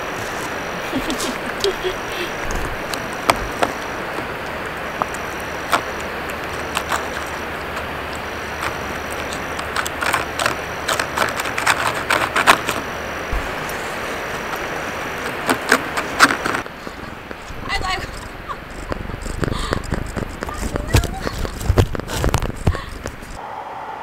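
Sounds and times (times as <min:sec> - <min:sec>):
cats chewing and licking: 0:00.0 - 0:23.4
steady outdoor hiss: 0:00.0 - 0:24.0.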